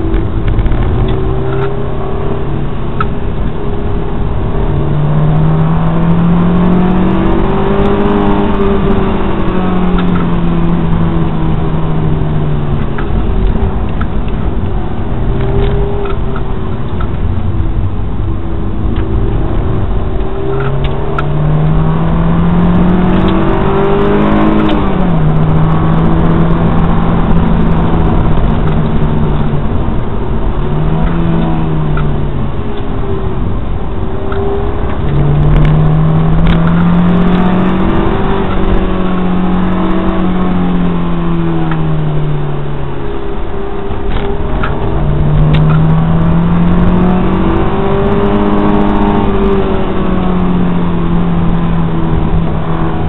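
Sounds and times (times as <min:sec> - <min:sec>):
car engine revving: 0:00.0 - 0:53.0
road and tyre noise: 0:00.0 - 0:53.0.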